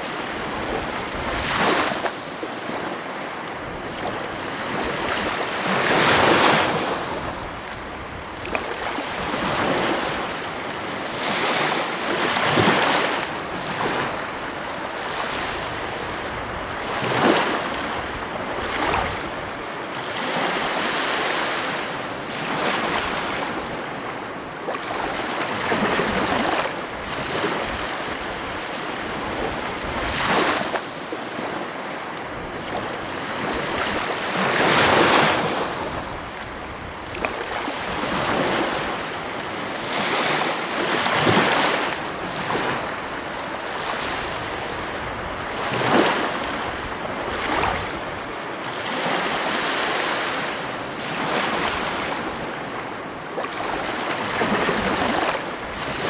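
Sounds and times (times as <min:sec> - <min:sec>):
wind noise on microphone: 0:00.0 - 0:21.6, 0:24.8 - 0:31.6, 0:32.2 - 0:49.3, 0:53.6 - 0:56.0
ocean waves crashing on shore: 0:00.0 - 0:56.0.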